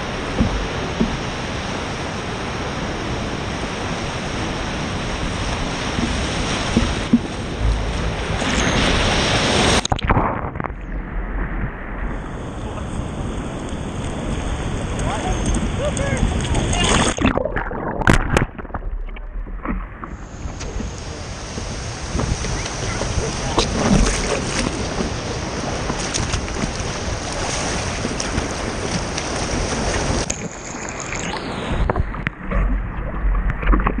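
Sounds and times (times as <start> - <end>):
ocean surf: 0.0 - 34.0
wind noise on microphone: 0.0 - 34.0.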